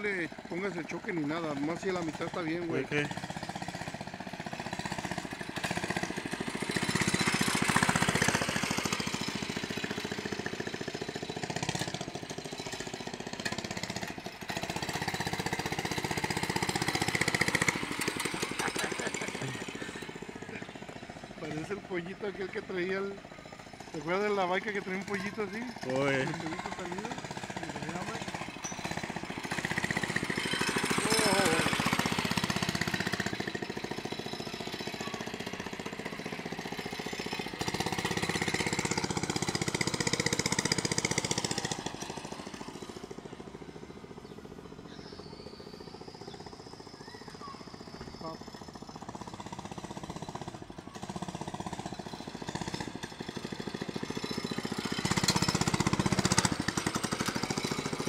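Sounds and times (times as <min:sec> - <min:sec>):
mini bike engine puttering: 0:00.0 - 0:58.0.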